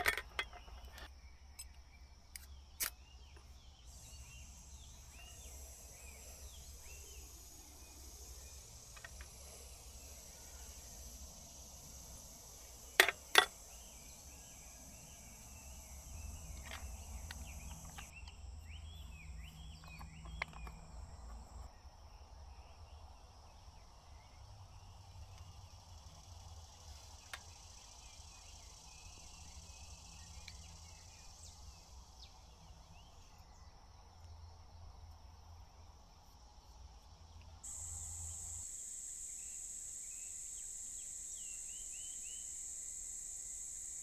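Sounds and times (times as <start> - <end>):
insects trilling: 0.0 - 44.0
short insect chirps: 0.0 - 44.0.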